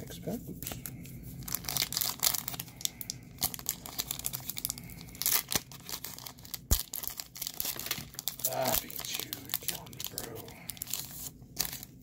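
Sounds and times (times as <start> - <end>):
foil wrapper torn and crinkled: 0.7 - 12.0.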